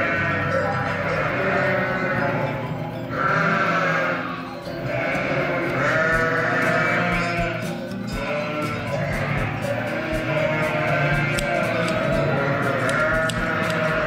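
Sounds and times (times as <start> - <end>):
music playing: 0.0 - 14.0
sheep bleating: 0.0 - 14.0.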